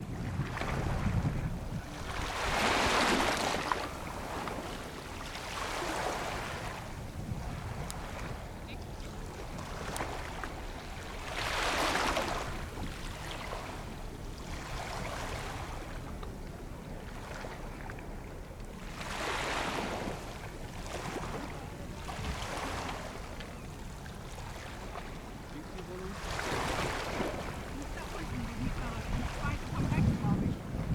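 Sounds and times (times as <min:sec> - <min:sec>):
waves washing onto shore: 0:00.0 - 0:30.9.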